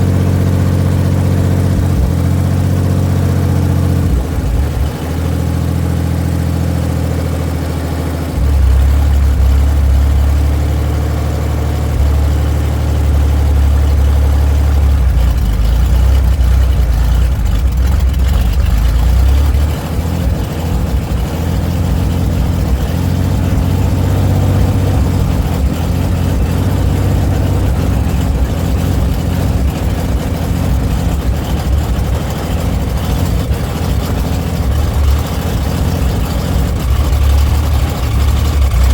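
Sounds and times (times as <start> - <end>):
car engine droning: 0.0 - 38.9.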